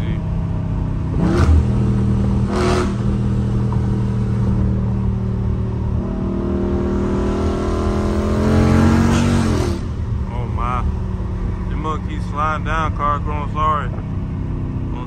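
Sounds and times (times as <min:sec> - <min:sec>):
car exhaust droning: 0:00.0 - 0:15.0.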